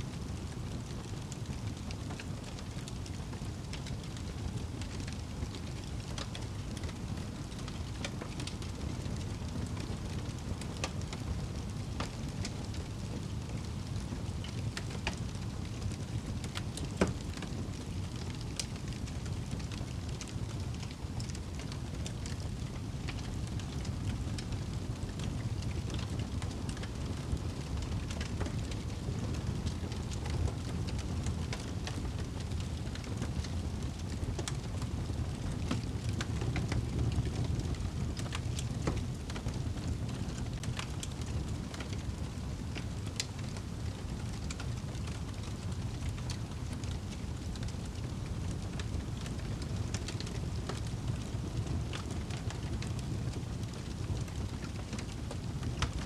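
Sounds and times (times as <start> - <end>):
wood fire crackling: 0.1 - 56.0
fire pops and snaps: 0.4 - 56.0.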